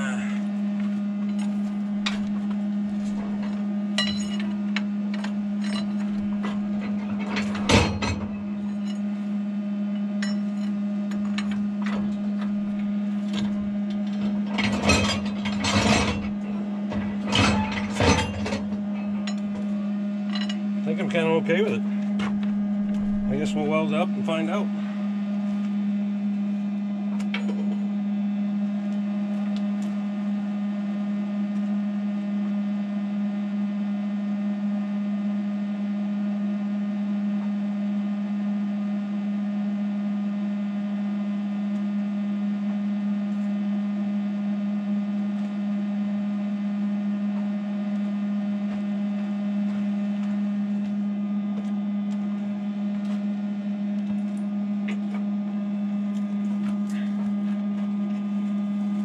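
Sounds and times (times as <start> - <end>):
machine humming: 0.0 - 59.0.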